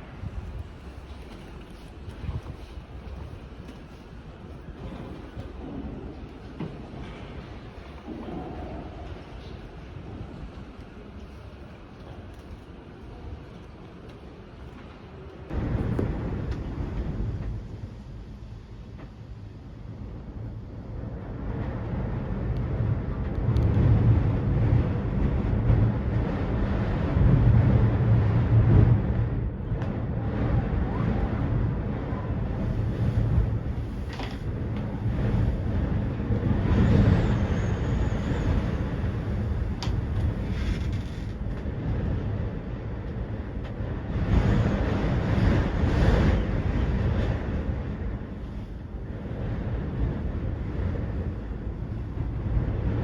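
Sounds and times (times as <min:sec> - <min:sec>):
wind rumbling on microphone: 0:00.0 - 0:53.0.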